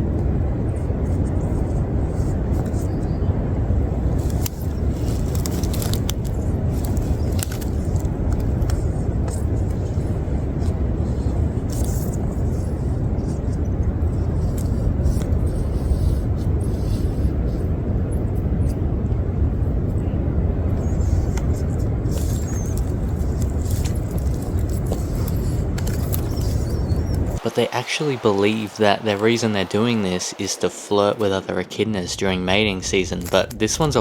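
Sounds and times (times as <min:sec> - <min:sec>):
echidna purring rumble: 0:00.0 - 0:27.4.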